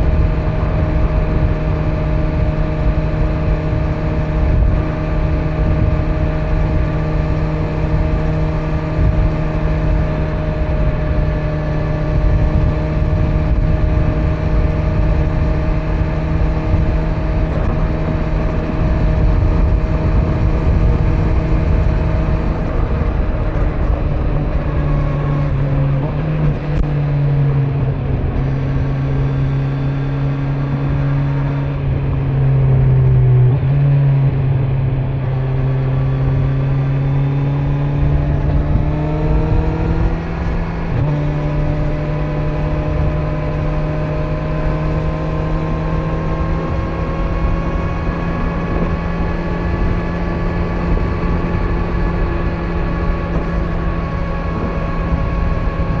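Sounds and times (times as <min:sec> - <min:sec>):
heavy wind noise: 0:00.0 - 0:56.0
motorcycle engine cruising: 0:00.0 - 0:56.0
road rumble: 0:00.0 - 0:56.0.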